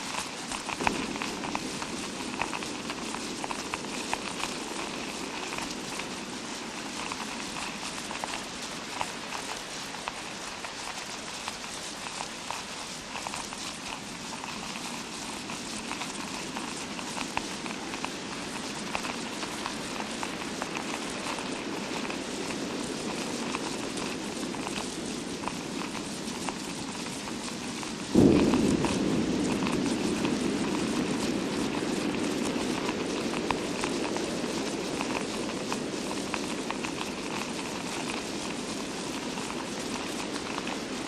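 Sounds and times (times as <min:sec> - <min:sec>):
rain patter over hiss: 0:00.0 - 0:41.0.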